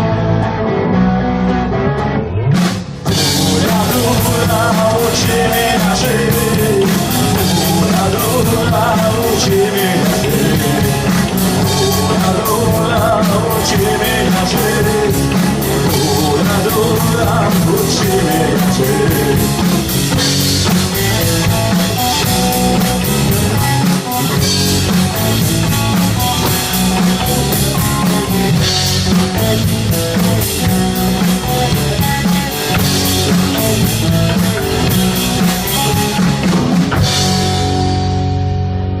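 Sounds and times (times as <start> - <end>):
bass guitar: 0.0 - 39.0
electric guitar: 0.0 - 39.0
drum kit: 2.5 - 39.0.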